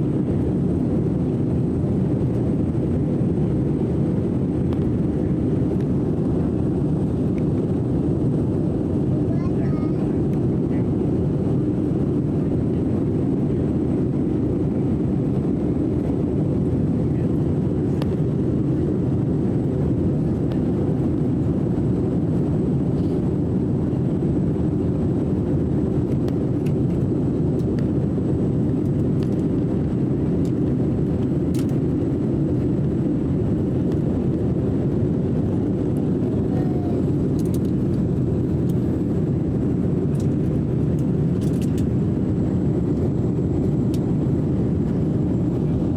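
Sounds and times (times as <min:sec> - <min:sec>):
airliner cabin noise: 0:00.0 - 0:45.9.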